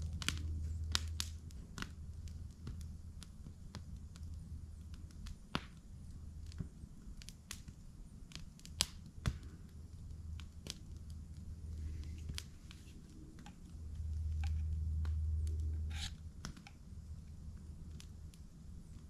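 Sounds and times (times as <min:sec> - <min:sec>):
campfire crackling and popping: 0:00.0 - 0:19.0
low steady rumble: 0:00.0 - 0:19.0.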